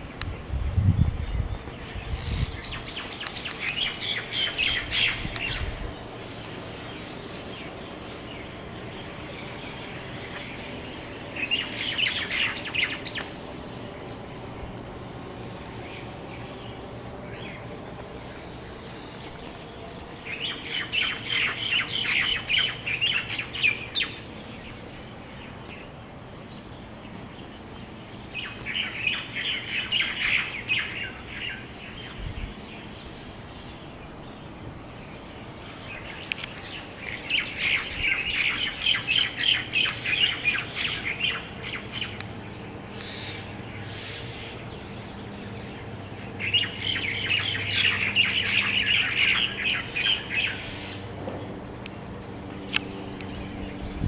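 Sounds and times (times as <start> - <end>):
birds chattering: 1.6 - 54.0.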